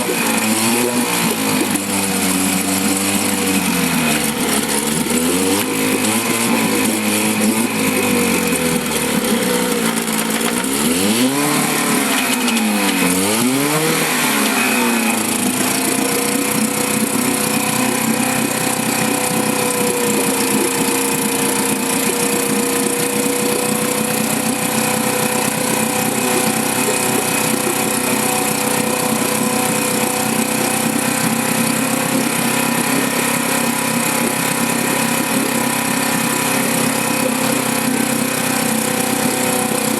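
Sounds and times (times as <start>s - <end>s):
outboard motor revving: 0.0s - 39.9s.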